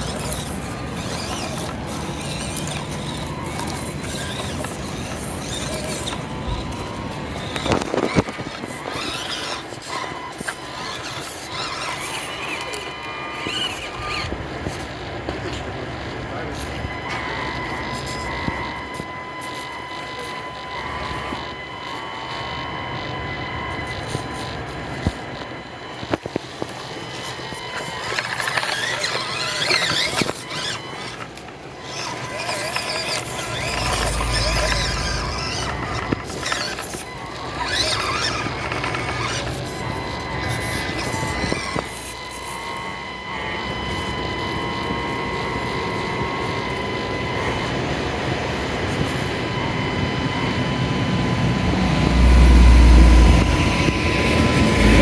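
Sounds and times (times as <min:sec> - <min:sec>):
small electric motors whining: 0:00.0 - 0:55.0.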